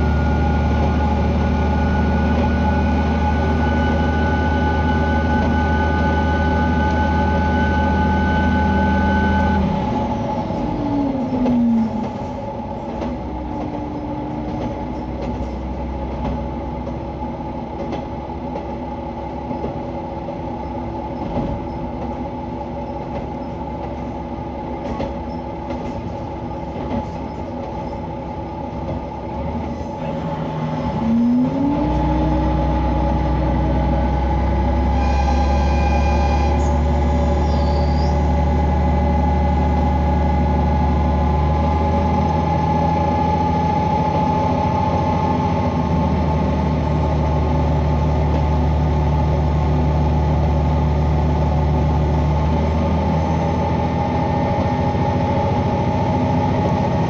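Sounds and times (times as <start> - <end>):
diesel railcar engine: 0.0 - 57.0
train running hum: 0.0 - 57.0.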